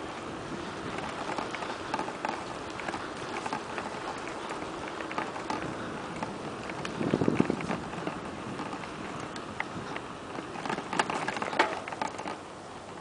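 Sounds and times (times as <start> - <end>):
bicycle clicks and rattles: 0.0 - 13.0
wind and tyres rushing: 0.0 - 13.0.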